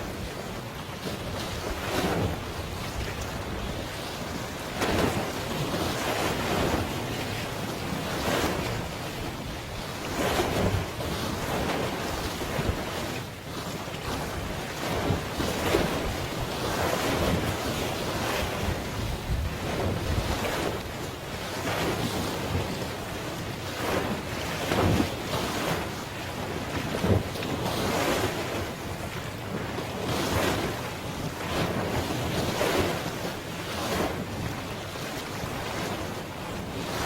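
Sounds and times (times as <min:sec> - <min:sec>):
sea waves washing: 0:00.0 - 0:37.0
wind rumbling on microphone: 0:00.0 - 0:37.0.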